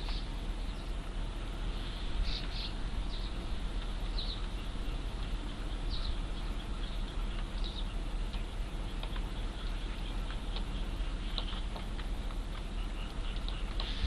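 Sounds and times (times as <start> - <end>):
steady low rumble: 0.0 - 14.0
fledglings chirping: 1.7 - 14.0.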